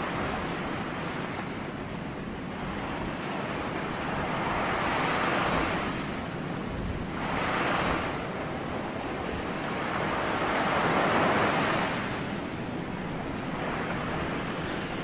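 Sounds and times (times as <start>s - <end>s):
ocean waves on a shore: 0.0s - 15.0s.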